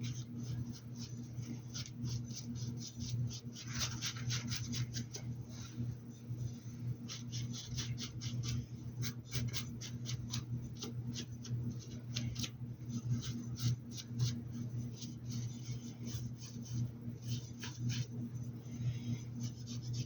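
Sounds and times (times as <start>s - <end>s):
paintbrush scratching and dabbing: 0.0s - 20.0s
steady low hum: 0.0s - 20.0s.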